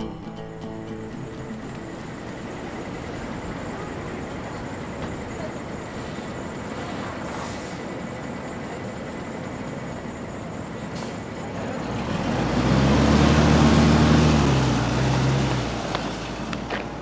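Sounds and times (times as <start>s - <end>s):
bus engine pulling away: 0.0s - 17.0s
street traffic noise: 0.0s - 17.0s.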